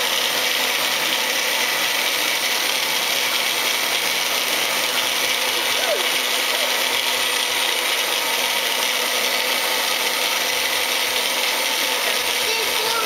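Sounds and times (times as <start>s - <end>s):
blender motor whirring: 0.0s - 13.0s.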